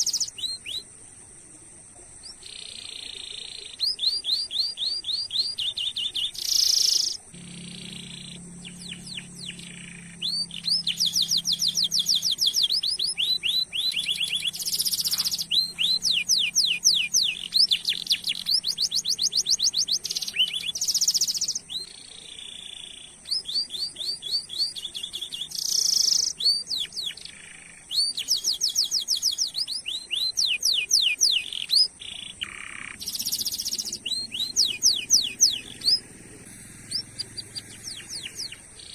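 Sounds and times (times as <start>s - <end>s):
canary singing trills: 0.0s - 0.9s, 2.1s - 38.9s.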